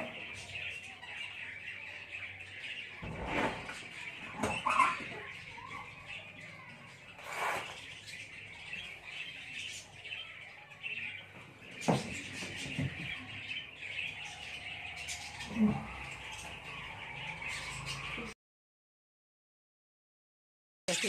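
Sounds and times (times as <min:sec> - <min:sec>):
budgerigars chattering and chirping: 0:00.0 - 0:18.3.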